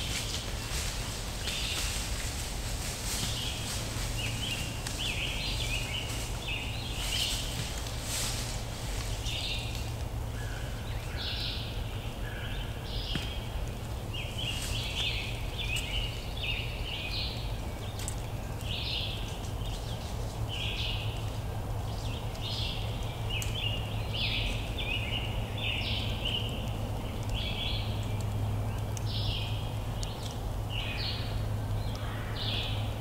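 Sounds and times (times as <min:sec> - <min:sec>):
rustles in dry leaves: 0:00.0 - 0:33.0
songbirds singing: 0:00.0 - 0:33.0
steady low rumble: 0:00.0 - 0:33.0.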